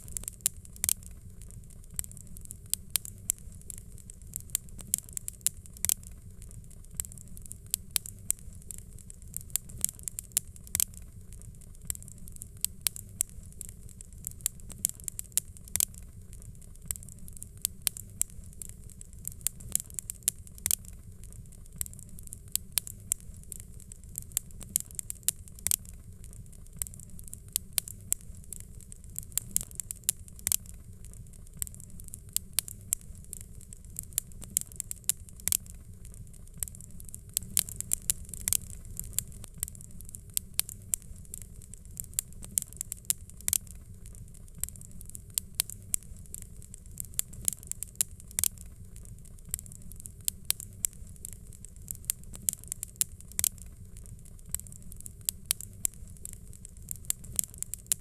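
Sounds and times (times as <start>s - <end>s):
log fire crackling and popping: 0.0s - 58.0s
steady low rumble: 0.0s - 58.0s.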